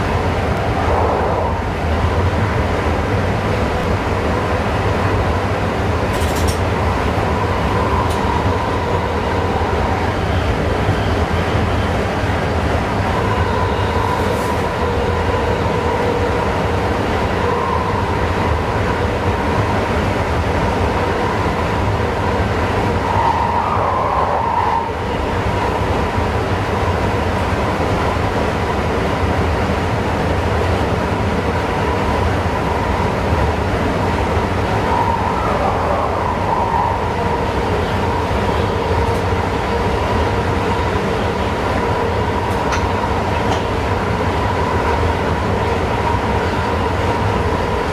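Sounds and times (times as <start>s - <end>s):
train running rumble: 0.0s - 47.9s.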